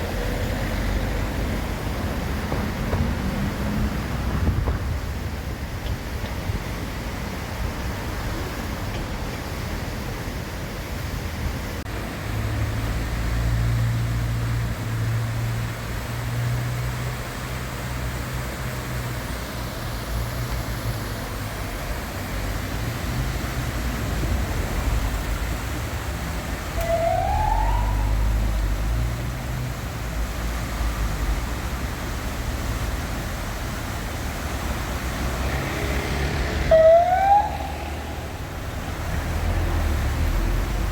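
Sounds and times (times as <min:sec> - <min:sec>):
traffic rumble: 0:00.0 - 0:40.9.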